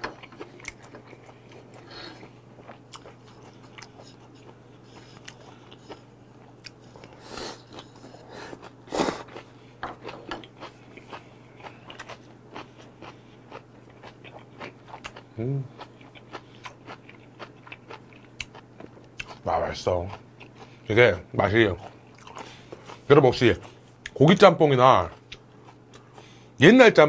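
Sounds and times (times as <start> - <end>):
close chewing and crunching: 0.0 - 26.5
faint steady hum: 0.0 - 27.0.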